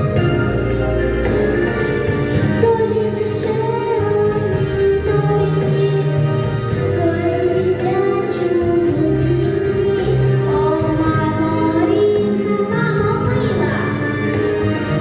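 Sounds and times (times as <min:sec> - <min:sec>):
instrumental accompaniment: 0:00.0 - 0:15.0
girl singing: 0:02.5 - 0:15.0.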